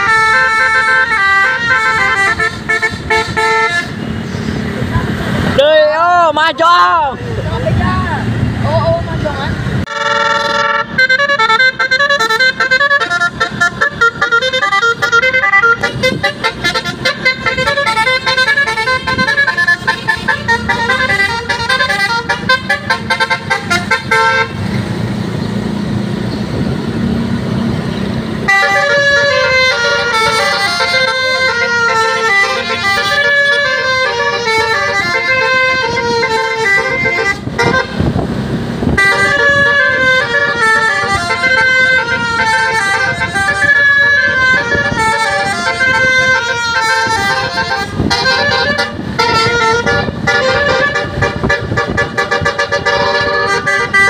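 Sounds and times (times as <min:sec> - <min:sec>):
musical bus horn melody: 0:00.0 - 0:04.5, 0:09.8 - 0:24.8, 0:28.4 - 0:54.0.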